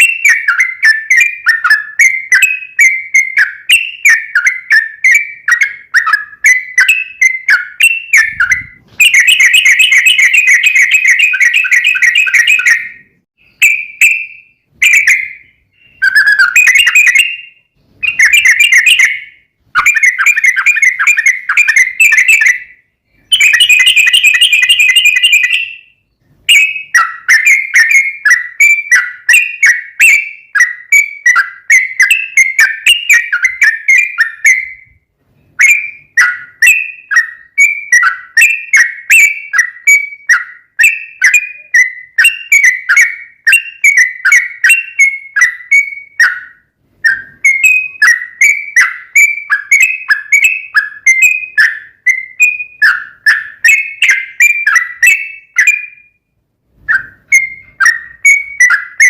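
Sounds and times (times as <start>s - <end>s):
bulbul singing: 0.0s - 56.3s, 56.9s - 59.0s.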